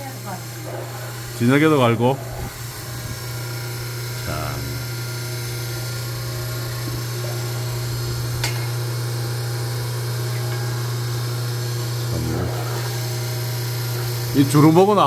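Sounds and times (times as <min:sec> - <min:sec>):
electric grinder motor humming: 0:00.0 - 0:15.0.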